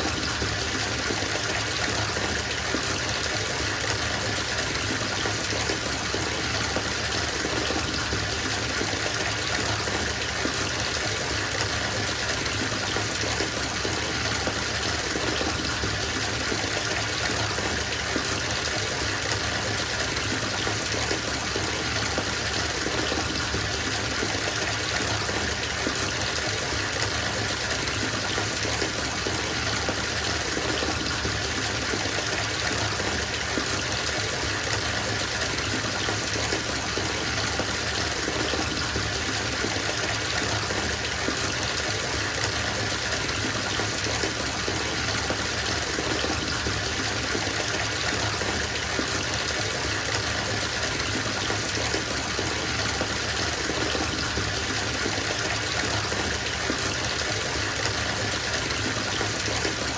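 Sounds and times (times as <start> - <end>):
water gushing into bathtub: 0.0 - 59.9.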